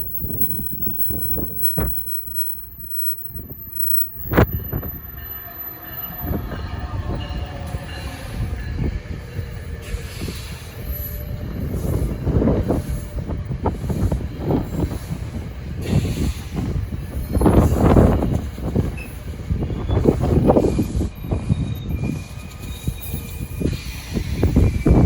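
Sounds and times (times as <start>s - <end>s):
train wheels rumbling and clattering: 0.0s - 25.0s.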